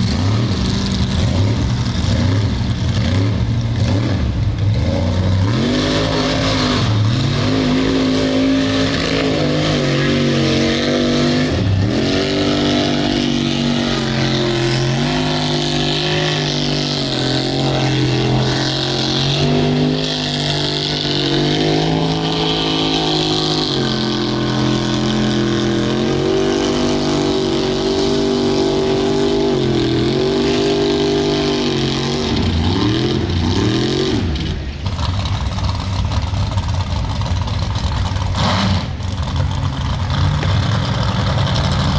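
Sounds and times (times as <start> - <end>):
truck engine at high revs: 0.0 - 41.9.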